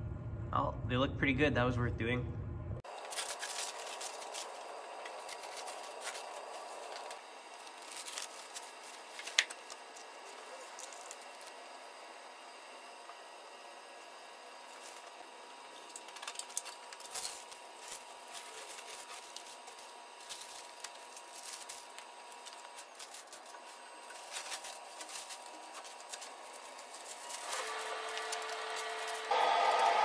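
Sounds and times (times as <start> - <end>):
loud hum with held tone: 1.8 - 30.0.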